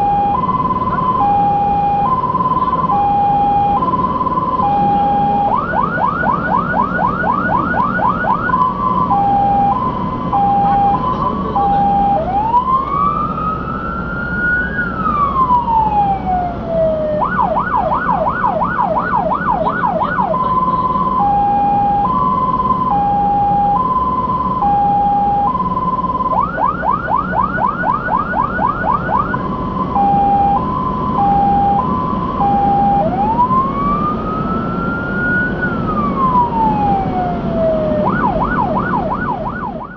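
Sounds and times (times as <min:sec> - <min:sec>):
fire engine siren: 0:00.0 - 0:39.9
truck engine and road noise: 0:00.0 - 0:39.9.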